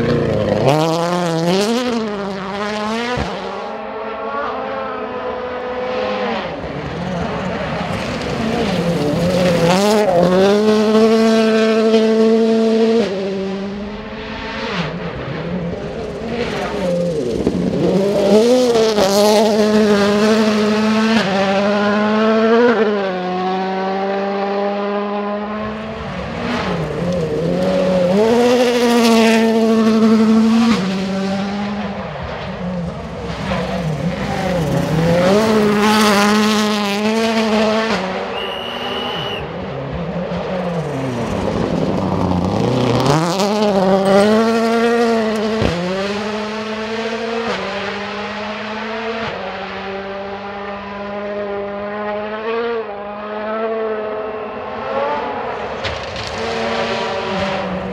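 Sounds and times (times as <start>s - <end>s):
rally car engine revving: 0.0s - 57.9s.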